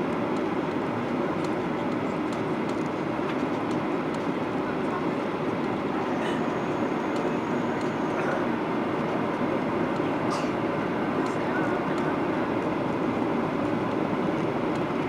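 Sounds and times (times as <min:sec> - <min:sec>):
airplane engine roar in flight: 0:00.0 - 0:15.0.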